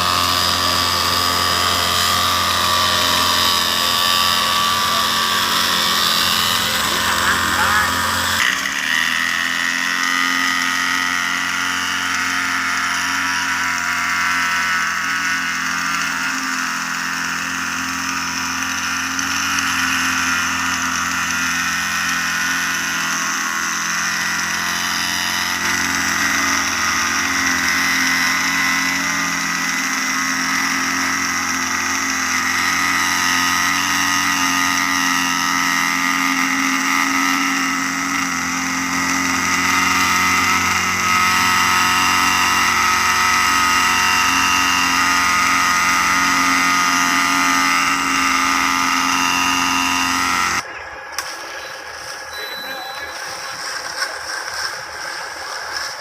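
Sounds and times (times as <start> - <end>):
high whine: 0.0 - 16.6, 17.4 - 56.0
truck engine droning: 0.0 - 56.0.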